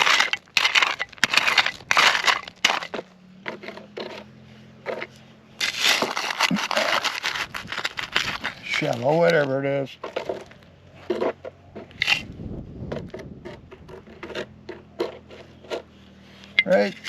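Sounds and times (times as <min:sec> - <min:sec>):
pick scraping gravelly soil: 0:00.0 - 0:17.0.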